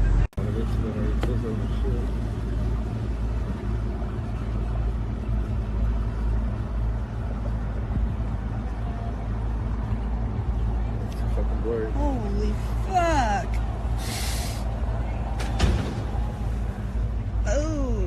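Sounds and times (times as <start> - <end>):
boat engine low rumble: 0.0 - 18.0.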